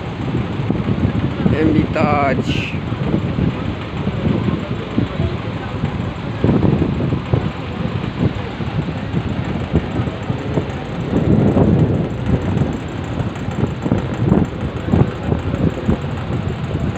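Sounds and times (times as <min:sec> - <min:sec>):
boat engine rumble: 0:00.0 - 0:16.9
wind buffeting microphone: 0:00.0 - 0:16.9.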